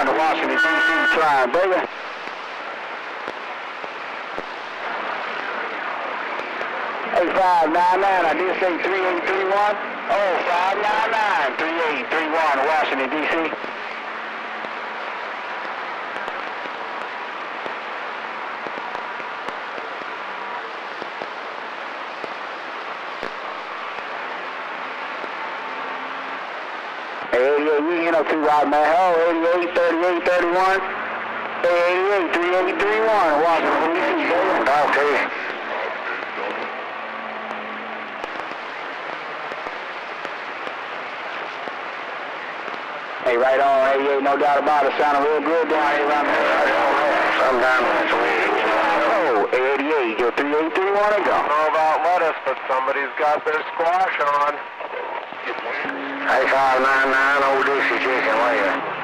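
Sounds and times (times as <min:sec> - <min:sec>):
faint radio crackles: 0:00.0 - 0:59.0
radio static hiss: 0:00.0 - 0:59.0.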